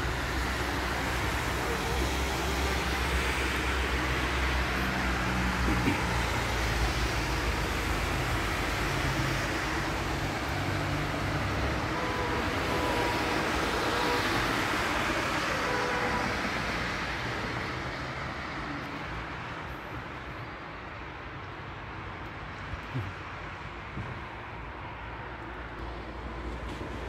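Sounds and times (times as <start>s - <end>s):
passing vehicles: 0.0s - 27.0s.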